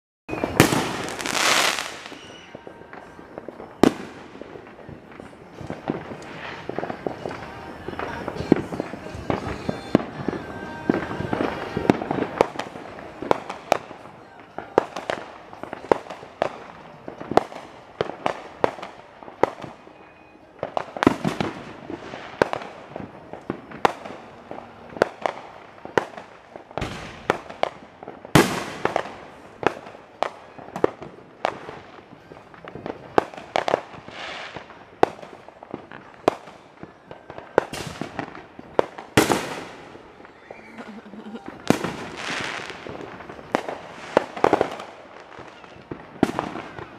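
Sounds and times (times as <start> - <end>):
fireworks bangs and pops: 0.3 - 46.9.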